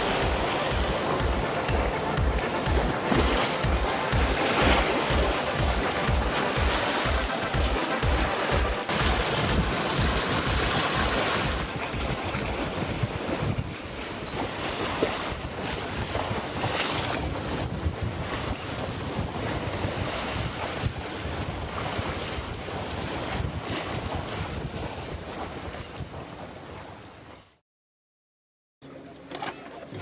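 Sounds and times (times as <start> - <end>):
wind buffeting microphone: 0.0 - 27.4
rush of sea water: 0.0 - 27.6, 29.3 - 30.0.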